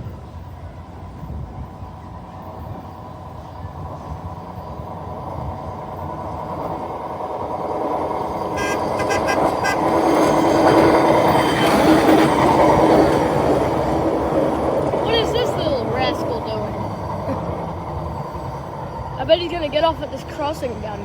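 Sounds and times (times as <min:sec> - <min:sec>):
truck running on rails: 0:00.0 - 0:21.0.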